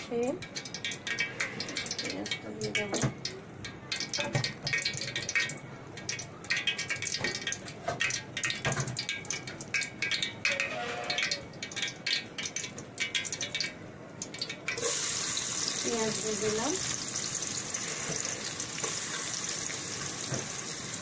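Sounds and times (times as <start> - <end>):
hot oil crackling in a pan: 0.0 - 21.0.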